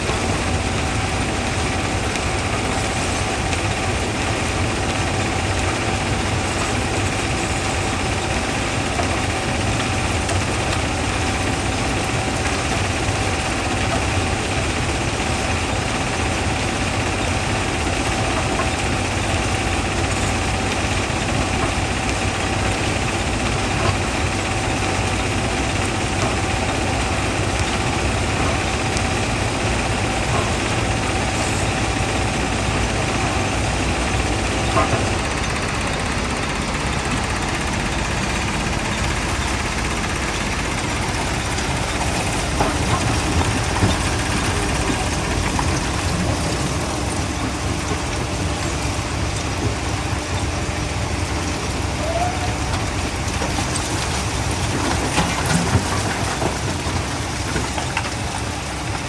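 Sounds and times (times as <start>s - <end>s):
jaw crusher running: 0.0s - 59.0s.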